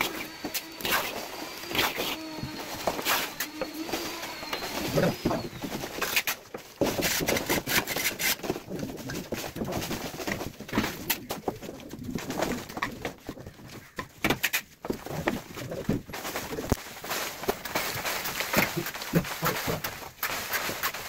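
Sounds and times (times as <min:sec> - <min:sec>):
trowels scraping and knocking: 0:00.0 - 0:21.0.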